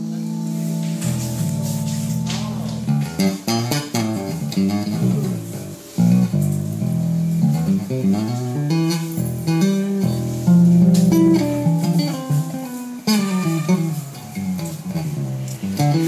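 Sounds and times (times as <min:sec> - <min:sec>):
bass guitar melodic line: 0:00.0 - 0:16.0.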